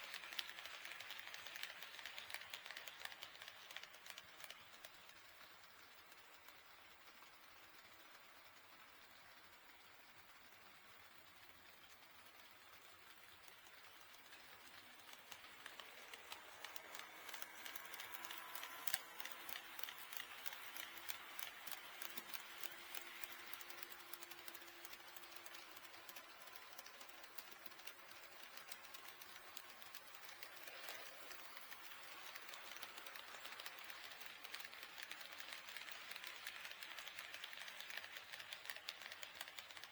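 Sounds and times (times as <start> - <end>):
model train wheels clicking: 0.0 - 39.9.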